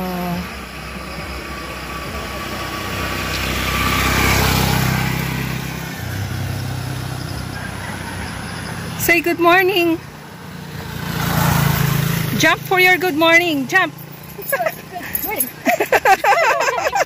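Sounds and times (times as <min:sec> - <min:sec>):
small engine running: 0:00.0 - 0:15.8
vehicle passing by: 0:00.0 - 0:17.0.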